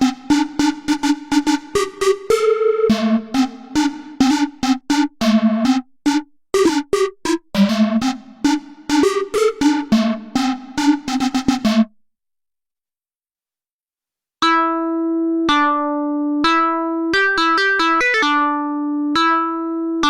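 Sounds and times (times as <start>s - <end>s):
plucky synthesizer notes: 0.0s - 11.9s, 14.4s - 20.0s.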